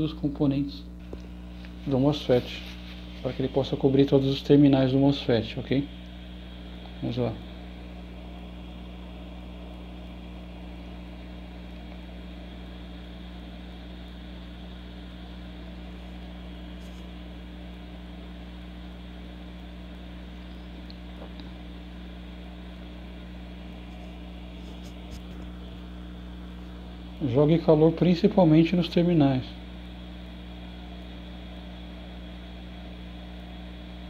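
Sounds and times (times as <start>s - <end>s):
steady low hum: 0.0s - 34.0s
hot air station blowing air: 1.0s - 34.0s.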